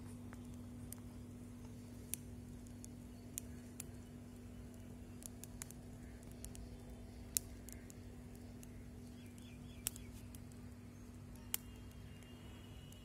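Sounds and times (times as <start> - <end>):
steady low hum: 0.0 - 13.0
wood fire crackling: 0.0 - 13.0
bird chirping: 2.5 - 13.0.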